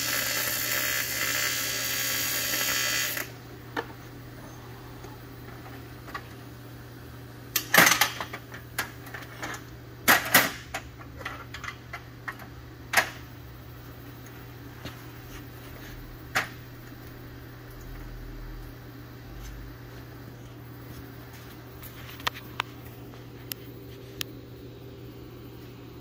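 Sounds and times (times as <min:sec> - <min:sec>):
steady low hum: 0:03.1 - 0:26.0.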